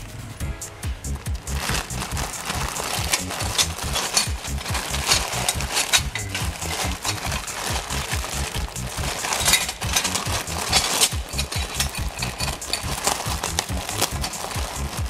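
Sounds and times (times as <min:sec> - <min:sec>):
background music bass line: 0:00.0 - 0:15.0
metal rods clinking: 0:01.0 - 0:15.0
plastic wrapping crinkling: 0:01.0 - 0:15.0.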